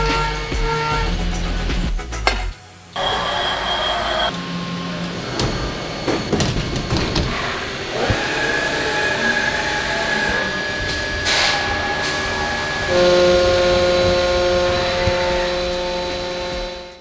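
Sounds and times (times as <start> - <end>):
spindle whine: 0.0 - 17.0
machine cutting metal: 2.3 - 17.0.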